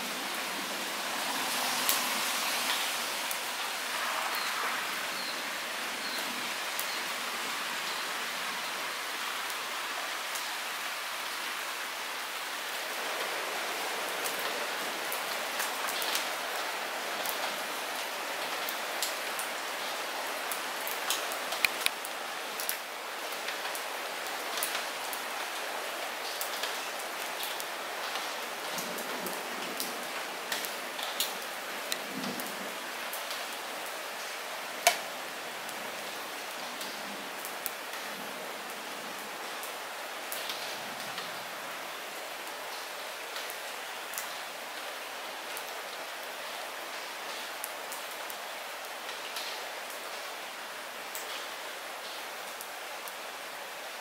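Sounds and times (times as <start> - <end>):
light rain hissing: 0.0 - 54.0
raindrops ticking on surfaces: 0.0 - 54.0.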